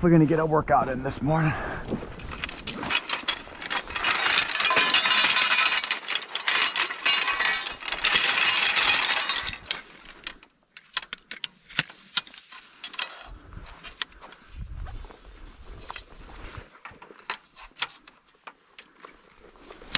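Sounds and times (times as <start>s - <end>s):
metal poles clinking and rattling: 1.8s - 14.6s, 15.6s - 19.9s.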